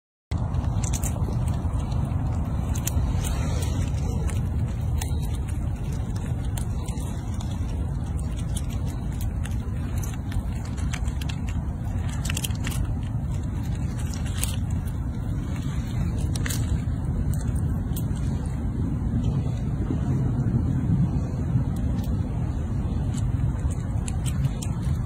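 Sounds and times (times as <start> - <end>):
squirrel gnawing peanut shell: 0.3 - 25.0
steady low rumble: 0.3 - 25.0.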